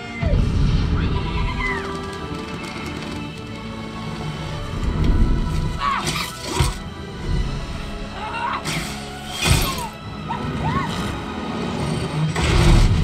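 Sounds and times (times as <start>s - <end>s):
film soundtrack music: 0.0s - 13.0s.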